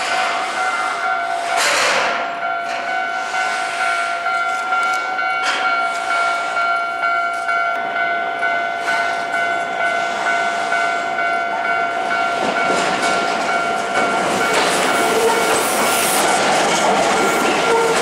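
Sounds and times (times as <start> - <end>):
level-crossing warning bell: 0.0 - 18.0
train passing with wheel clatter: 0.0 - 18.0.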